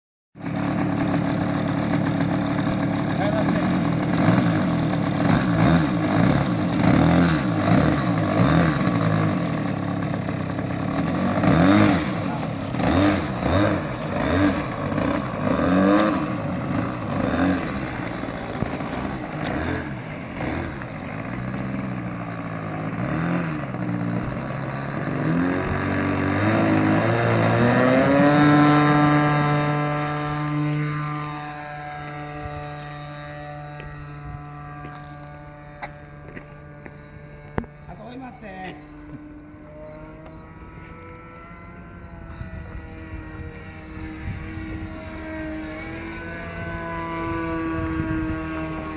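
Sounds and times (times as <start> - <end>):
model airplane engine: 0.4 - 48.9.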